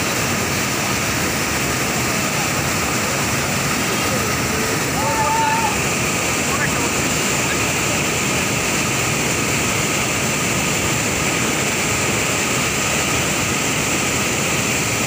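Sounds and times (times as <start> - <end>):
white water rushing: 0.0 - 15.0.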